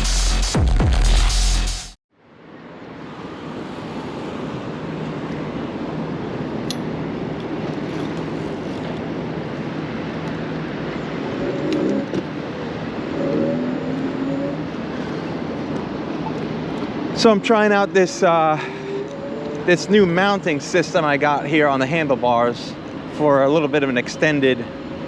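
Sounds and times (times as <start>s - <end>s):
road noise: 2.1s - 25.0s.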